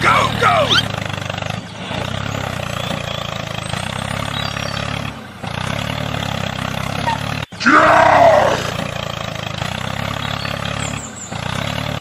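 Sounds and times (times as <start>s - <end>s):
tractor engine chugging: 0.0s - 7.7s, 8.6s - 12.0s.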